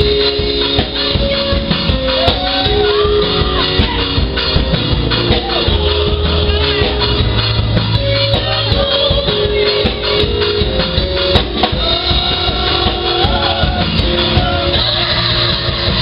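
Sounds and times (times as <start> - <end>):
band music with drum kit: 0.0 - 16.0.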